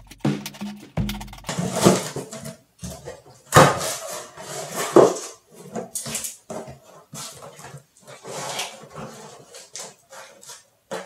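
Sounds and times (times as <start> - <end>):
cardboard scraping and rustling: 1.4 - 11.0.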